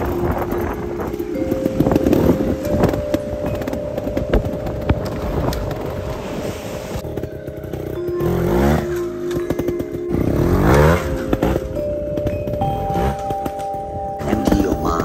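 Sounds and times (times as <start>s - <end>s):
background music: 0.0s - 15.0s
motorcycle engine revving: 0.0s - 15.0s.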